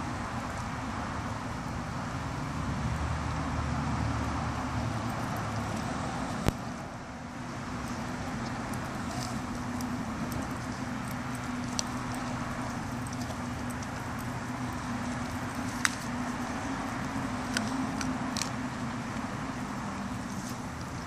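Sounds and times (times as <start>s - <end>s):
distant road traffic hum: 0.0s - 21.0s.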